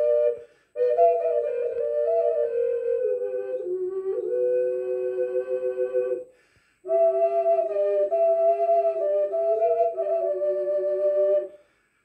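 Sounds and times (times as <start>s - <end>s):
double ocarina playing harmony: 0.0s - 11.7s.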